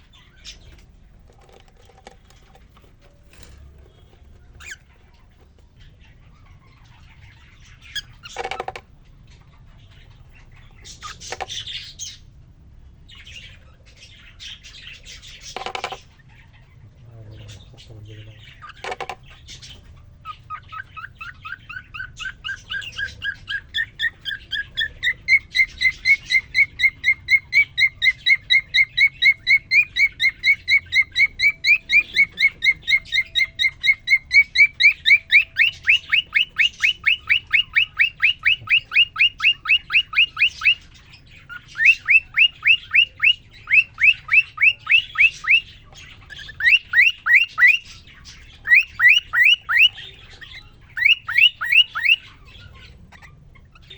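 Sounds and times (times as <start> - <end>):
cockatiel chirping: 0.0 - 12.3, 13.1 - 53.9.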